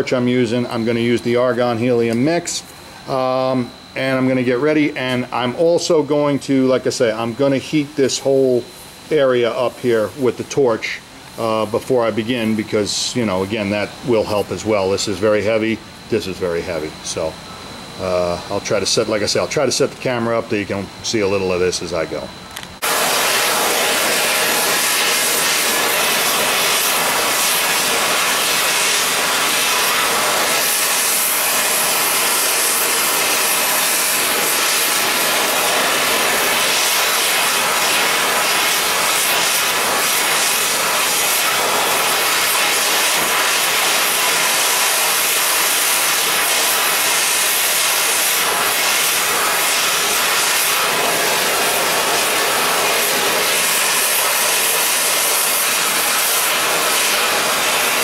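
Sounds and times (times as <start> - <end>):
gas torch flame hissing: 0.0 - 58.0.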